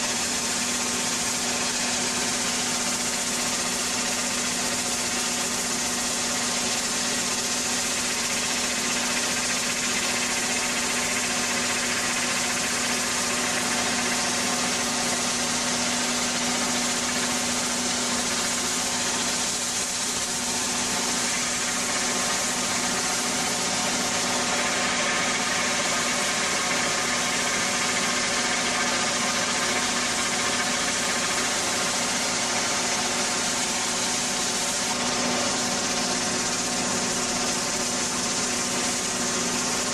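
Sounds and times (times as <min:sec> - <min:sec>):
high-pressure pump droning: 0:00.0 - 0:39.9.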